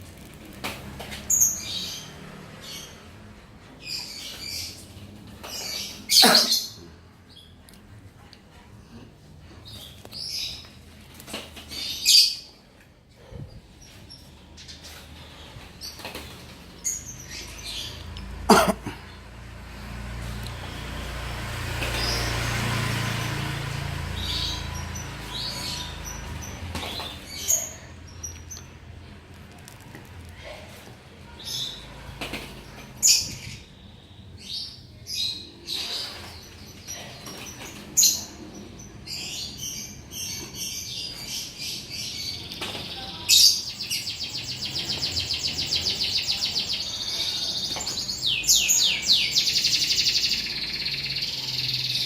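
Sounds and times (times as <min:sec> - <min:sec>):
cage bird chirping: 0:00.1 - 0:07.6, 0:09.5 - 0:12.7, 0:13.4 - 0:29.3, 0:31.2 - 0:52.0.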